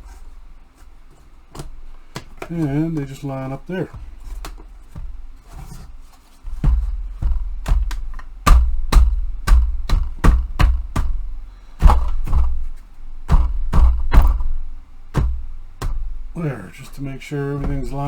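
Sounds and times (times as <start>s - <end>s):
wooden pieces knocking: 1.1s - 18.0s.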